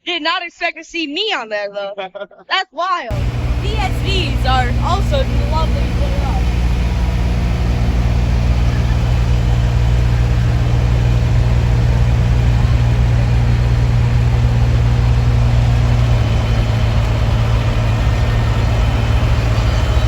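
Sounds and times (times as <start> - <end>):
truck engine idling: 3.1 - 20.0.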